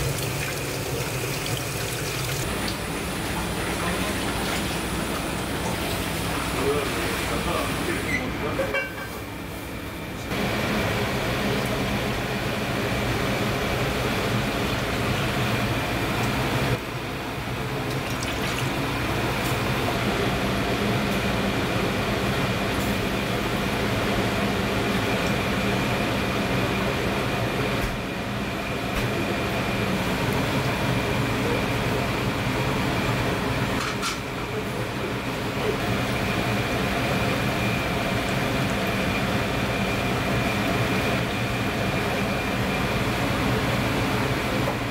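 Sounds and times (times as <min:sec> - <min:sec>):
mechanical hum with high whine: 0:00.0 - 0:44.9.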